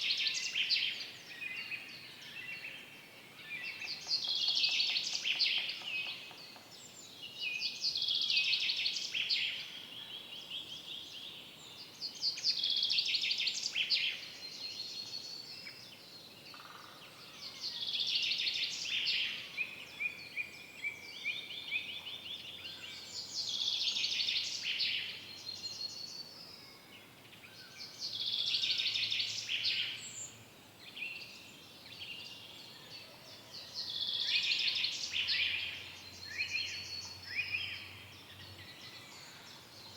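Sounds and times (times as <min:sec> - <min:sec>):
forest ambience hiss: 0:00.0 - 0:32.8.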